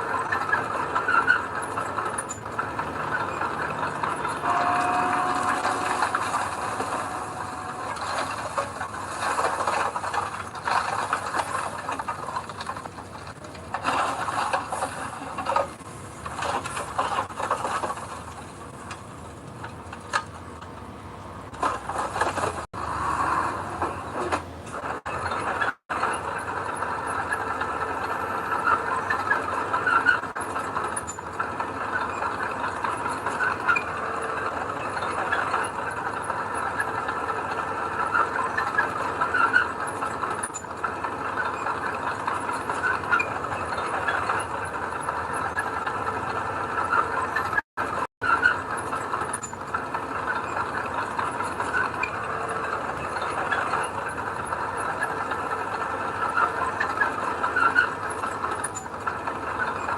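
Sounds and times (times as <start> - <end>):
metallic squeaking and clatter: 0.0 - 20.6, 21.5 - 59.9
diesel engine running: 0.0 - 59.9.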